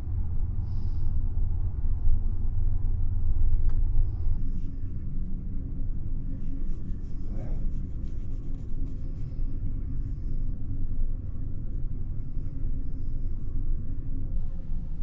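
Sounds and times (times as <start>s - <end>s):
train rumbling inside car: 0.0s - 15.0s.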